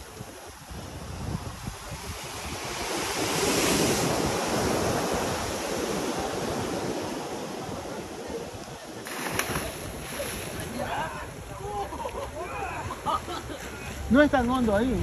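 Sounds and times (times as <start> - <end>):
sea waves washing against pier: 0.0 - 15.0.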